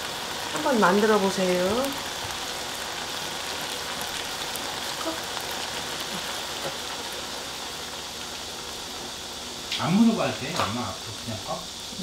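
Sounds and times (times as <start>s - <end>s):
braise sizzling in frying pan: 0.0s - 12.0s
faint crackles: 0.0s - 12.0s.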